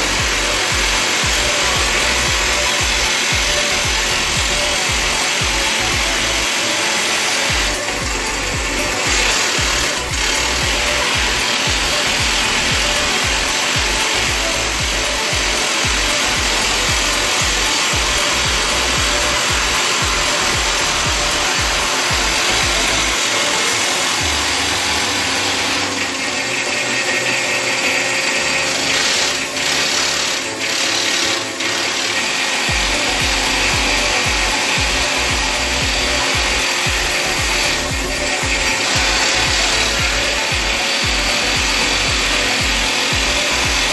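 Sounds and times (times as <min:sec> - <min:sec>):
hydraulic rock drill clattering: 0:00.0 - 0:43.9.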